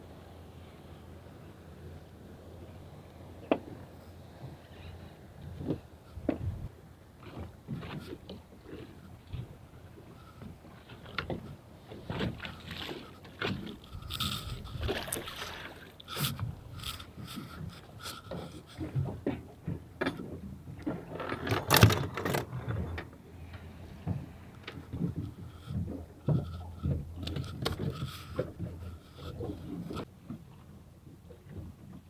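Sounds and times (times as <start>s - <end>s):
water slapping boat hull: 2.6s - 32.0s
knocks and scrapes on boat: 3.4s - 4.9s, 5.5s - 30.6s.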